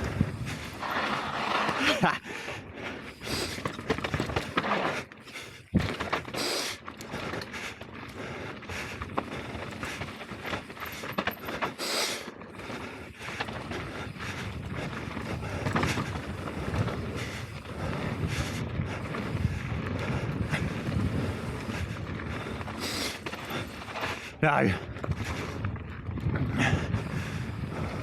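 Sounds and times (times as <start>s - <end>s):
bike knocking and rattling: 0.0s - 28.0s
bike tyres on dirt trail: 0.0s - 28.0s.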